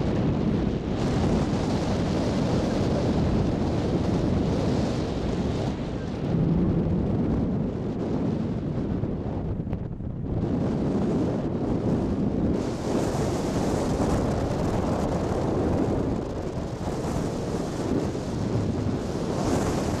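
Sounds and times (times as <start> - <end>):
boat rushing through water: 0.0 - 9.5, 10.3 - 20.0
wind buffeting microphone: 0.0 - 20.0.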